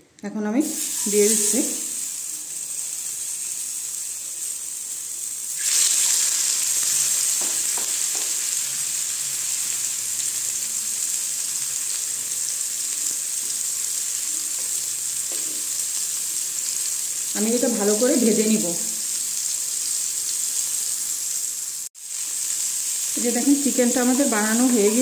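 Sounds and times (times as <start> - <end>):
patties sizzling in oil: 0.6 - 25.0.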